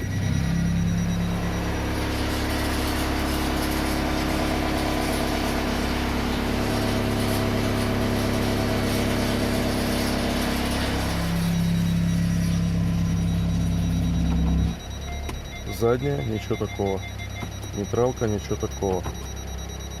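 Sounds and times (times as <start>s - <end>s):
car engine droning hum: 0.0s - 20.0s.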